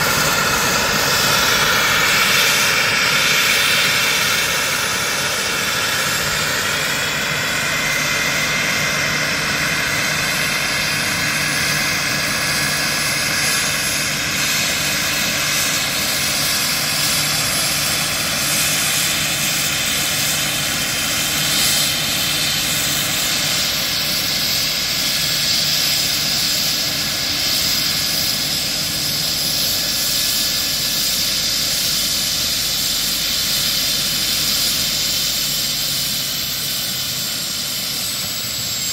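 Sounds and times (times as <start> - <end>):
model helicopter engine and rotor: 0.0 - 38.9.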